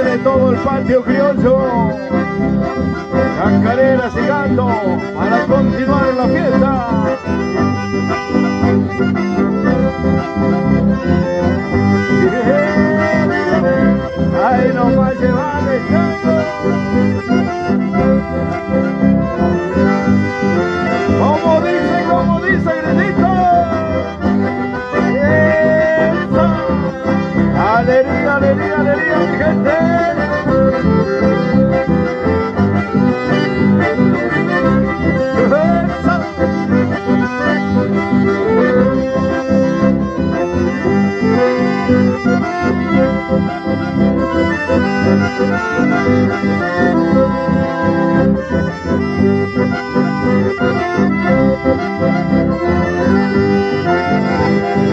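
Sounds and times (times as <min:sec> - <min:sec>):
button accordions playing melody: 0:00.0 - 0:54.9
electric bass: 0:00.0 - 0:54.9.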